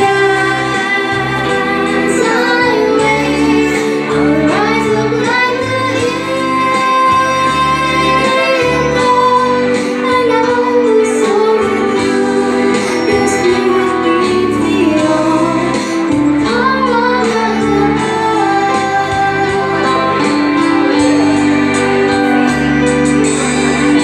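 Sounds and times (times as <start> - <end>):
girl singing into microphone: 0.0 - 21.2
instrumental accompaniment: 0.0 - 24.0.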